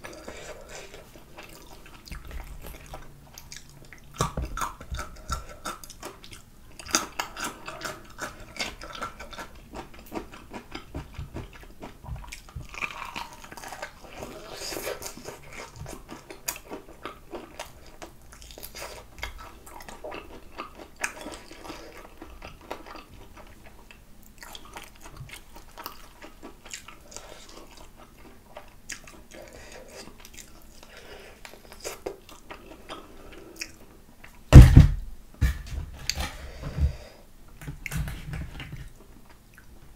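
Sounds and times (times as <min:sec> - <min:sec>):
crispy chicken being chewed: 0:00.0 - 0:34.5.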